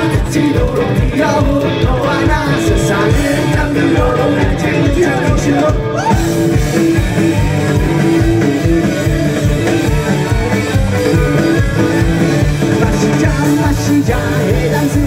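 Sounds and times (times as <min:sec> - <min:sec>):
fast drum beat: 0:00.0 - 0:15.0
punk rock band playing: 0:00.0 - 0:15.0.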